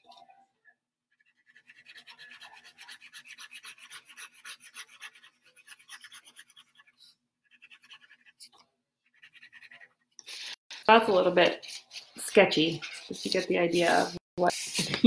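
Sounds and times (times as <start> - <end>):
pen scratching on paper: 1.1 - 14.2.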